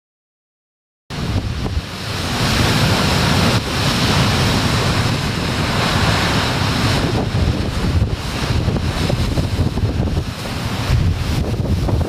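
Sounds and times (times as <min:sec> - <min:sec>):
surf crashing over rocks: 0:01.1 - 0:12.0
wind buffeting microphone: 0:01.1 - 0:12.0.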